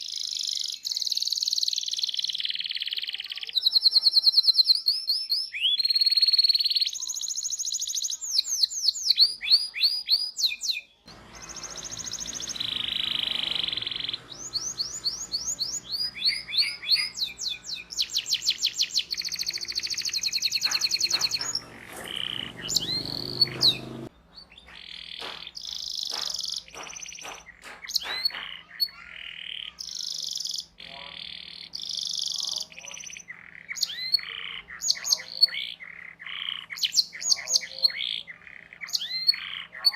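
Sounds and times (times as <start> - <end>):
canary singing trills and chirps: 0.0 - 39.9.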